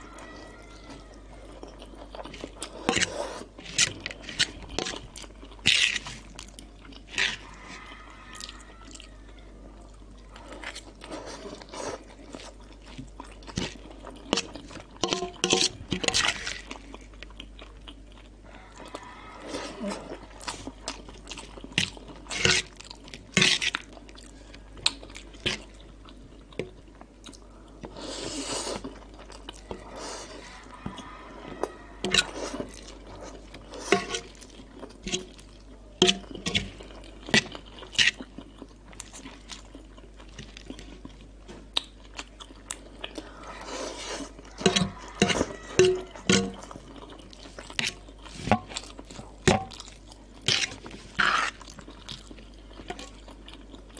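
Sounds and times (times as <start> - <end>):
crunchy food being chewed: 0.0 - 53.9
wet chewing: 0.0 - 53.9.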